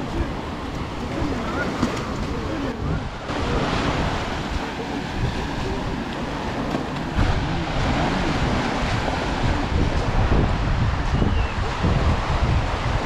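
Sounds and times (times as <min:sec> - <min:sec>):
small waves breaking on shore: 0:00.0 - 0:13.0
wind rumbling on microphone: 0:00.0 - 0:13.0.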